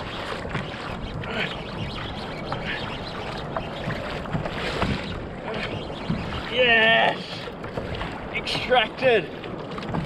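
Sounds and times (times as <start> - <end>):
water washing around kayak: 0.0 - 10.0.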